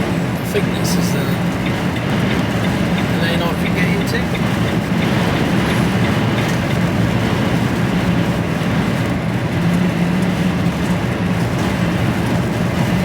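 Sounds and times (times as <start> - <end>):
lorry engine drone: 0.0 - 13.0
road noise: 0.0 - 13.0.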